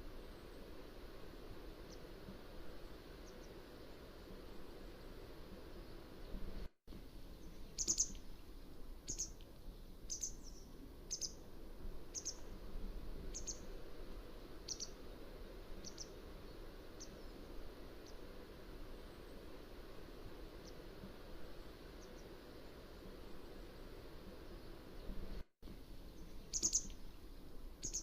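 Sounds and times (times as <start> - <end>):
low background hiss: 0.0 - 28.0.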